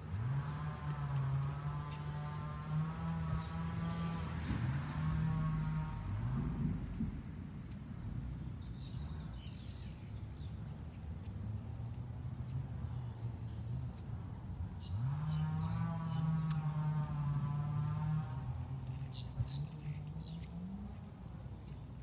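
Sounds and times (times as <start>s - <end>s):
nestlings begging chirps: 0.0s - 22.0s.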